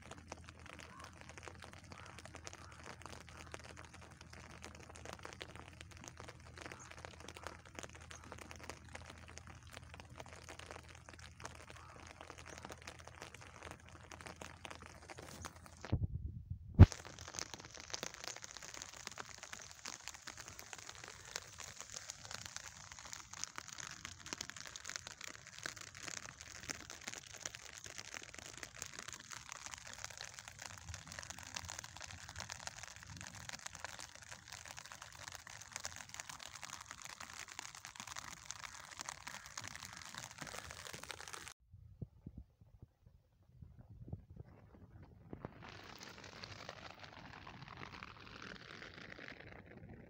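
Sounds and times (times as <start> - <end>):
steady rain pattering: 0.0 - 16.0, 16.8 - 41.6, 44.4 - 50.0.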